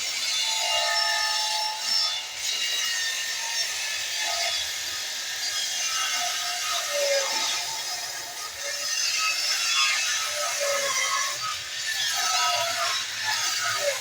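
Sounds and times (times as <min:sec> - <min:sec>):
saw cutting wood: 0:00.0 - 0:14.0.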